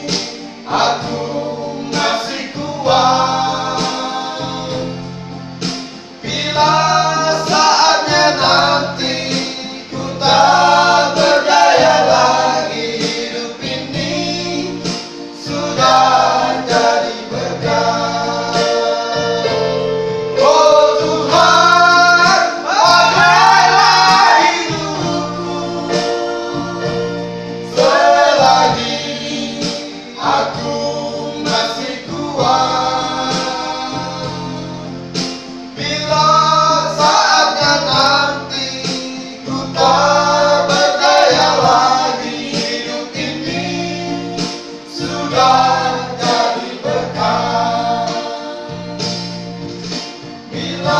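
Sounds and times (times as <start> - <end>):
electronic keyboard accompaniment: 0.0 - 50.9
men singing gospel in parts: 0.0 - 50.9.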